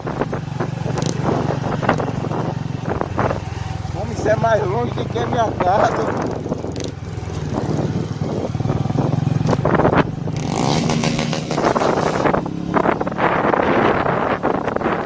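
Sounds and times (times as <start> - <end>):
loud motorcycle engine: 0.0 - 15.0.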